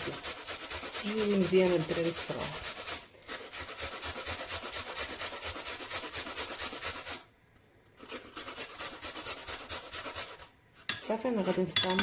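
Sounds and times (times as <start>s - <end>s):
vegetable grated on a grater: 0.0s - 7.3s, 8.0s - 11.8s.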